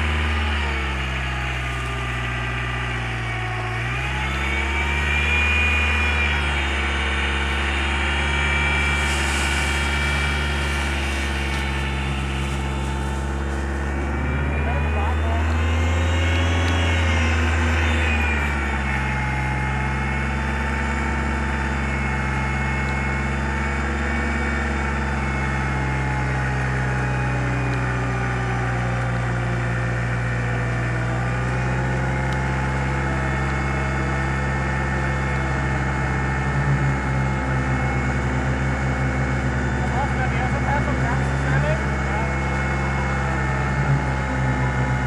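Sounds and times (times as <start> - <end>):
winch engine running: 0.0 - 45.0.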